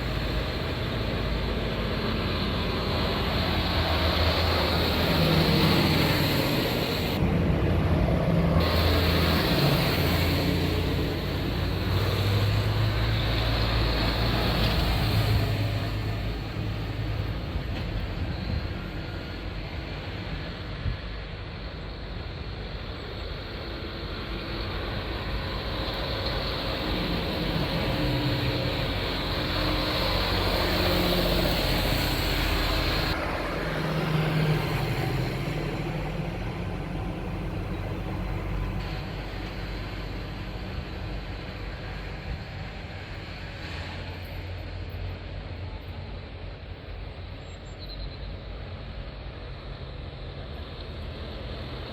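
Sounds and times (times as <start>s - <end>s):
tractor engines running: 0.0s - 51.9s.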